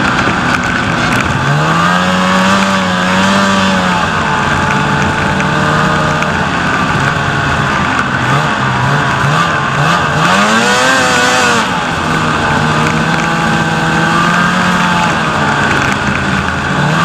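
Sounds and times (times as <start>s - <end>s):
snowmobile engine: 0.0s - 17.0s.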